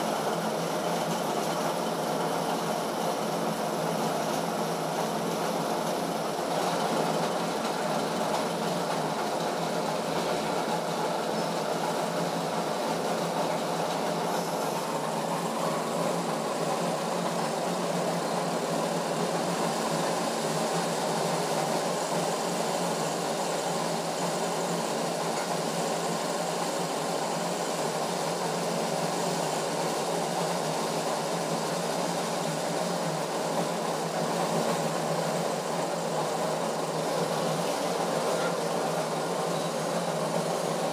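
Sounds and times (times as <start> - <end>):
test bench machine running: 0.0 - 40.9.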